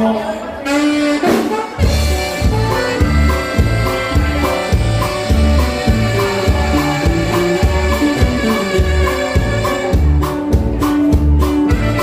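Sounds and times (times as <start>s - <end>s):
accordion: 0.0s - 12.0s
live band music: 0.0s - 12.0s.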